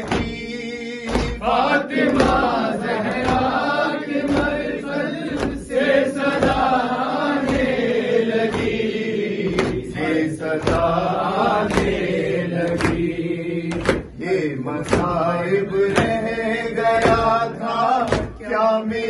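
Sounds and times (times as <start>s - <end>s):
hands slapping chests: 0.0s - 18.6s
men chanting through a microphone: 0.0s - 19.0s.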